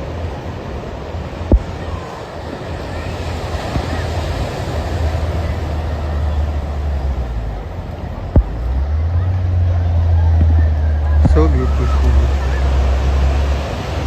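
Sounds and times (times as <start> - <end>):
surf washing on beach: 0.0 - 14.0
wind on microphone: 0.0 - 14.0.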